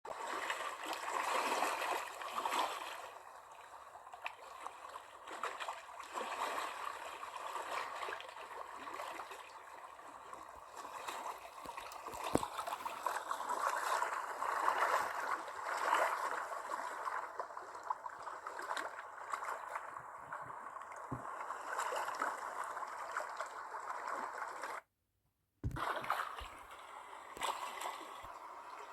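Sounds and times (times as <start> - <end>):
water gurgling and splashing: 0.1 - 24.9, 25.6 - 28.9.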